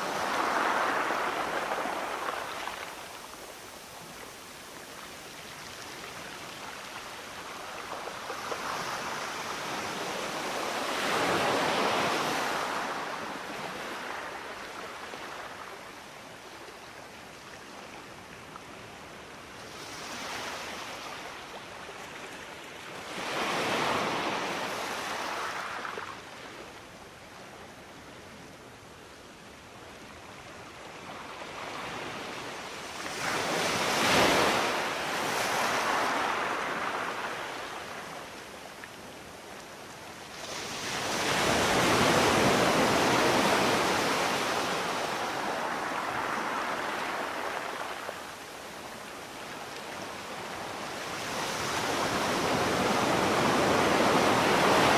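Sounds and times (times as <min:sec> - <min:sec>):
ocean waves breaking on shore: 0:00.0 - 0:54.9.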